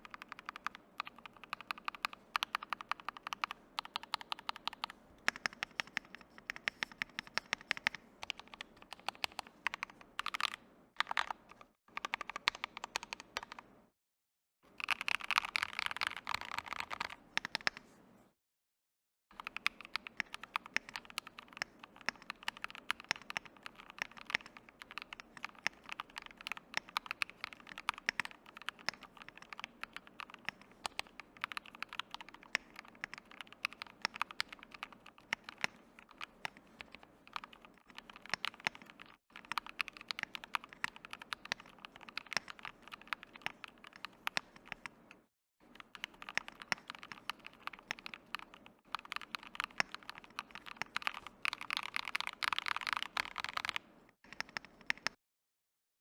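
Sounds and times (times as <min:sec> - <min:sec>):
fast keyboard typing: 0:00.0 - 0:13.7, 0:14.7 - 0:17.8, 0:19.4 - 0:55.2.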